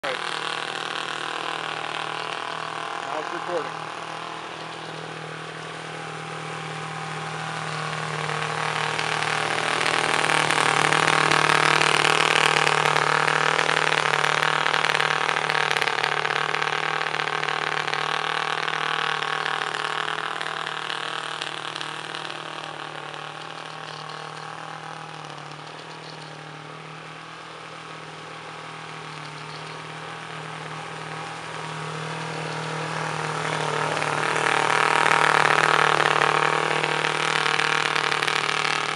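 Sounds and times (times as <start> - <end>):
model boat engine running: 0.0 - 38.9.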